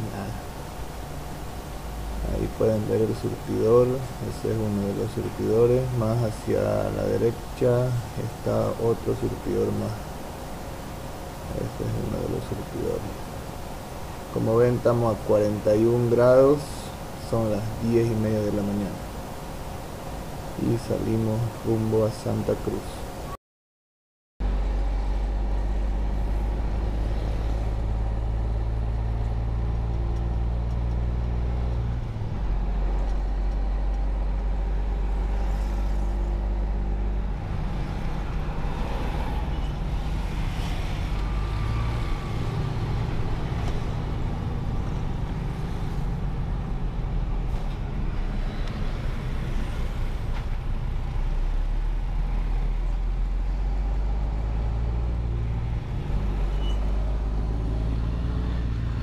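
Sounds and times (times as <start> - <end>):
heavy truck engine drone: 0.0 - 23.4, 24.4 - 59.0.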